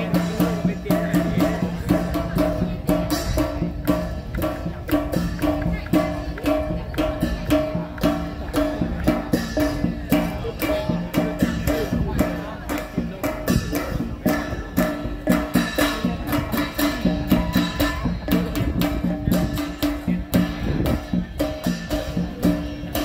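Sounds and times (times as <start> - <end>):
fast drum and percussion beat: 0.0 - 23.0.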